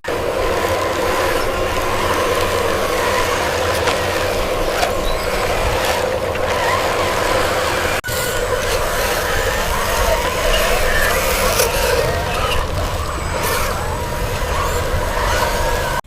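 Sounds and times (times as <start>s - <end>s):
small electric motor whine: 0.0s - 16.0s.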